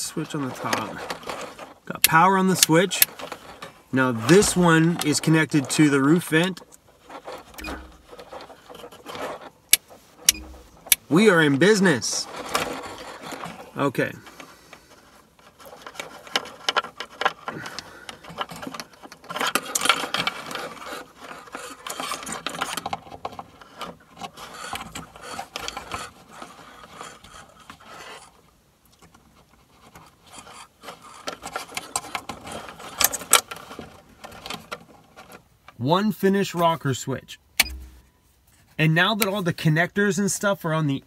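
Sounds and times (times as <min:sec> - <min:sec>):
wires scraping on wood: 0:00.0 - 0:35.5.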